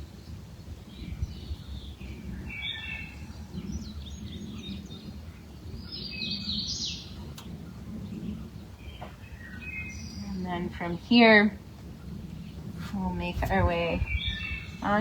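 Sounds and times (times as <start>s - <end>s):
low background rumble: 0.0s - 15.0s
songbirds chirping: 0.0s - 15.0s.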